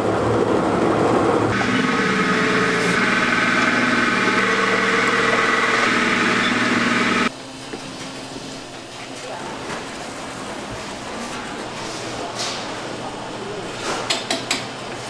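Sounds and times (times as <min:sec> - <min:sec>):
machinery humming and whining: 0:00.0 - 0:13.7.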